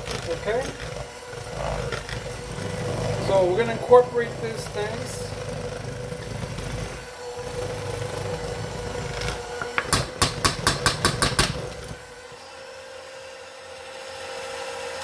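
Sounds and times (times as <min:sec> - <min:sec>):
mixer beaters knocking bowl: 0:00.0 - 0:12.0
hand mixer churning mixture: 0:00.0 - 0:15.0
mixer motor whine: 0:00.0 - 0:15.0.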